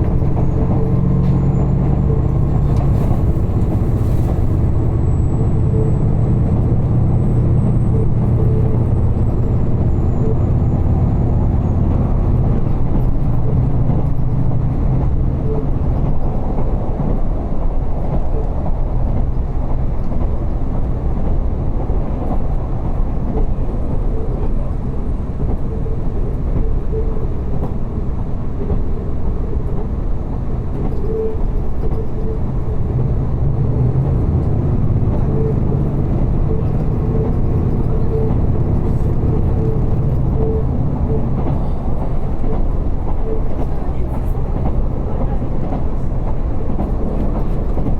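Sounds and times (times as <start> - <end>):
railcar engine drone: 0.0 - 47.9.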